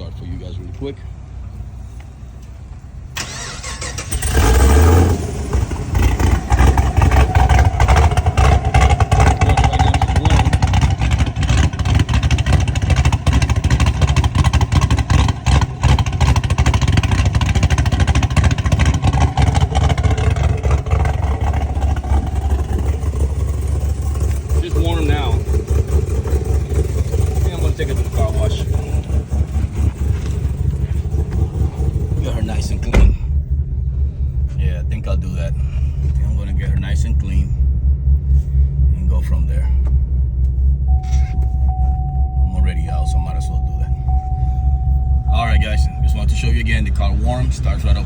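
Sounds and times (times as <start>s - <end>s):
car engine cranking and starting: 0.0s - 48.0s
car engine idling: 0.0s - 48.0s.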